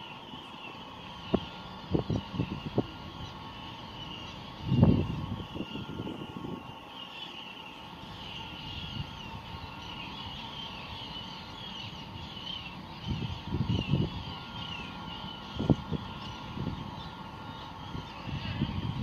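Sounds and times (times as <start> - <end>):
high wavering chirping: 0.0 - 19.0
mechanical hum: 0.0 - 19.0.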